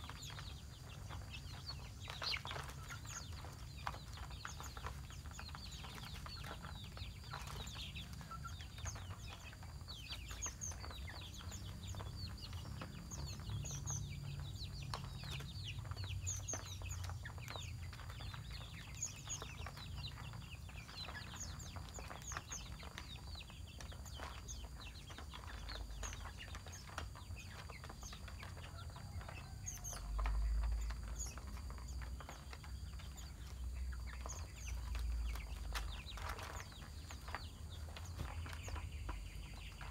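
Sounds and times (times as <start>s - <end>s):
chickens clucking: 0.0s - 39.9s
small birds chirping: 0.0s - 39.9s.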